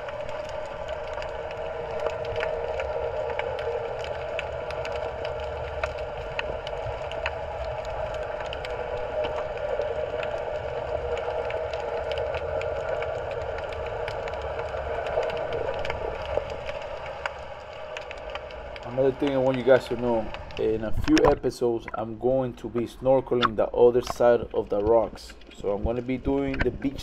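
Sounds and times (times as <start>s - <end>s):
underwater low rumble: 0.0s - 27.0s.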